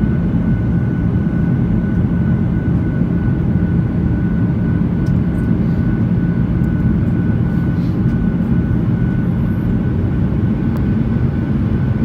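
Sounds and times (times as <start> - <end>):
aircraft engines and airflow rumble: 0.0 - 12.0
faint steady whine: 0.0 - 12.0.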